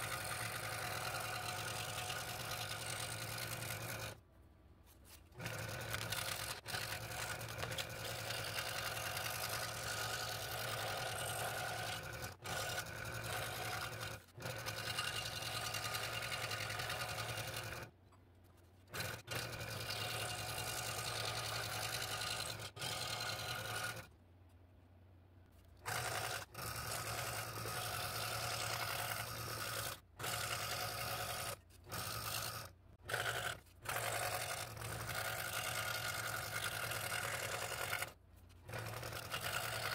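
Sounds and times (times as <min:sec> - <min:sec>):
scroll saw cutting wood: 0:00.0 - 0:04.2, 0:04.9 - 0:24.2, 0:25.5 - 0:39.9.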